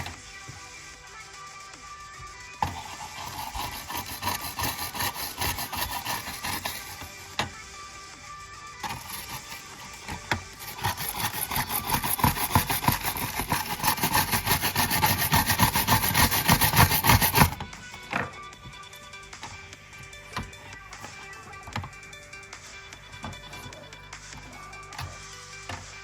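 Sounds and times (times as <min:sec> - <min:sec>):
scrubbing keyboard parts: 0:00.0 - 0:00.2, 0:02.6 - 0:07.6, 0:08.8 - 0:26.0
background music: 0:00.0 - 0:26.0.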